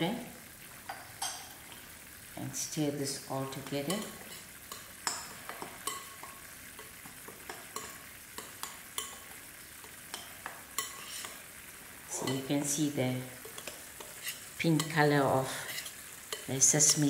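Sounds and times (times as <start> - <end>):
syrup sizzling in frying pan: 0.0 - 17.0.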